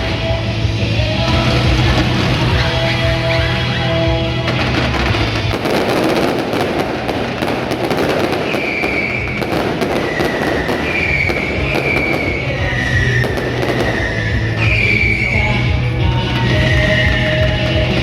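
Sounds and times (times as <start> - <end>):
fireworks crackling: 0.0 - 18.0
music: 0.0 - 18.0.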